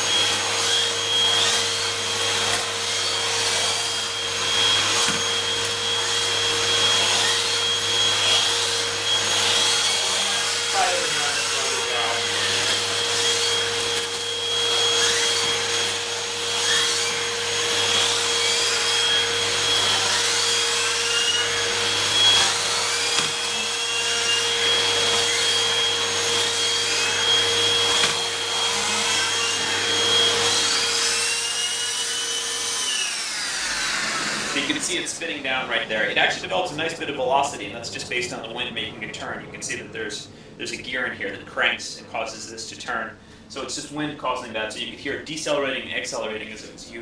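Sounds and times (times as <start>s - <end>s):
turbo brush turbine whining: 0.0s - 47.0s
vacuum cleaner motor drone: 0.0s - 47.0s.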